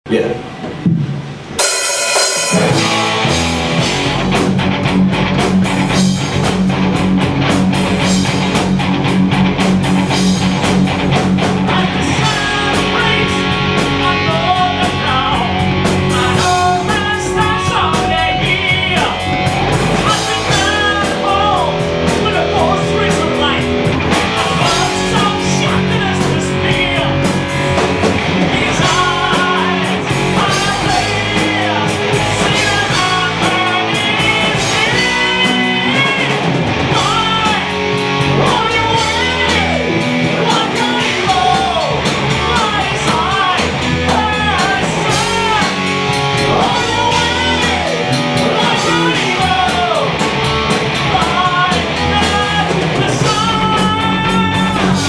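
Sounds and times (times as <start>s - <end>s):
bass guitar: 0.1s - 55.0s
distorted electric guitars: 0.1s - 55.0s
drum kit: 0.1s - 55.0s
lead singer singing: 2.2s - 4.0s, 11.4s - 55.0s.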